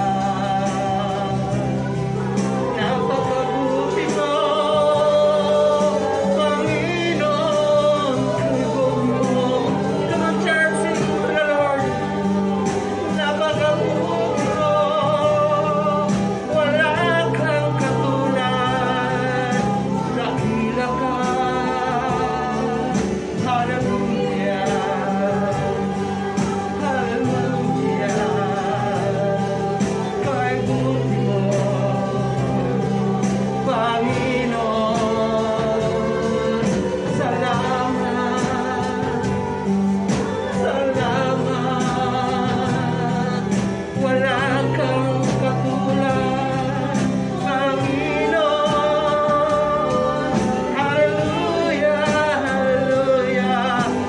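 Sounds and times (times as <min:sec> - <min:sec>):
worship song singing: 0:00.0 - 0:54.0.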